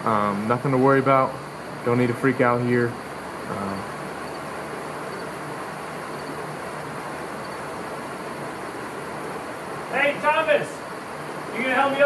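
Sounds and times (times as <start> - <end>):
background hiss: 0.0 - 12.0
crickets chirping: 0.0 - 12.0.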